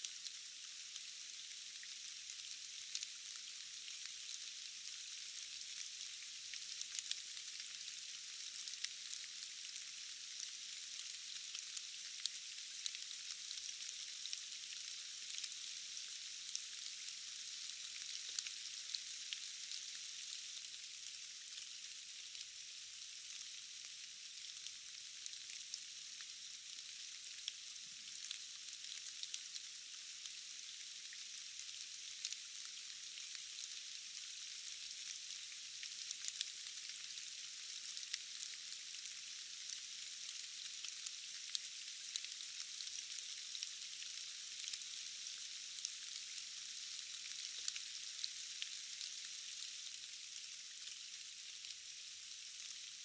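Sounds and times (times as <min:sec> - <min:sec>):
rain falling in forest: 0:00.0 - 0:53.0.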